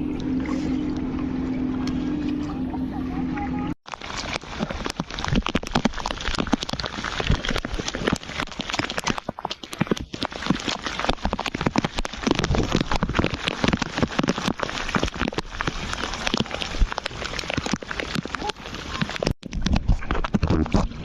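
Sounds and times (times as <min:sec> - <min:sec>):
water splashing from paddling: 0:00.0 - 0:21.0.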